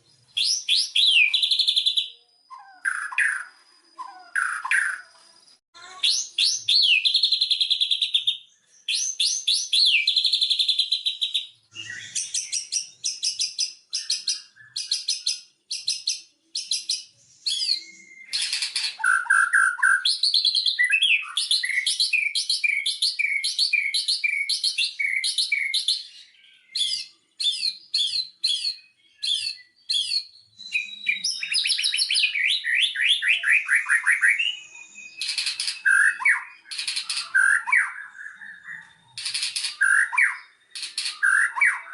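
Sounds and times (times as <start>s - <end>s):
songbird singing varied song: 0.0s - 41.9s.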